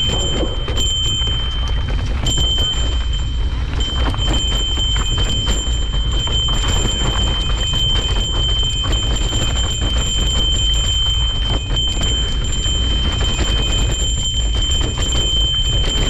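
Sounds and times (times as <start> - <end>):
bike rattling over bumps: 0.0 - 16.0
high-pitched whine: 0.0 - 16.0
wind and tyre rumble: 0.0 - 16.0.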